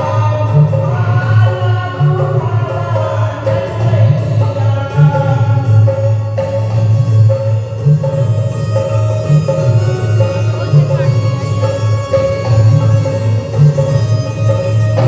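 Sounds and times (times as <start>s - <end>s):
devotional song music: 0.0s - 15.0s.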